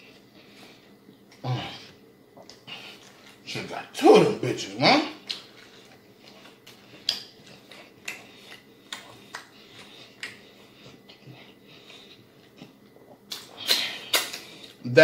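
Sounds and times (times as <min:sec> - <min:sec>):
lip-smacking and chewing: 0:00.1 - 0:03.4, 0:05.2 - 0:14.8.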